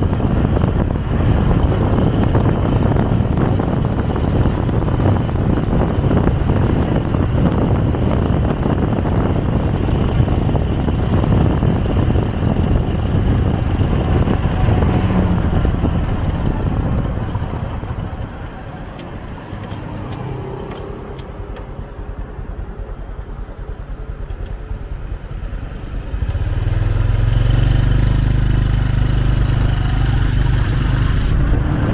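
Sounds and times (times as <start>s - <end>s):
wind rush on microphone: 0.0s - 22.2s, 24.7s - 31.9s
city traffic: 0.0s - 31.9s
motorcycle engine running: 0.0s - 31.9s.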